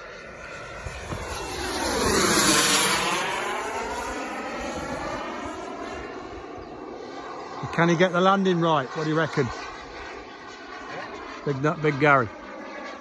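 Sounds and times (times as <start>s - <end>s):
model jet turbine flying past: 0.0s - 13.0s.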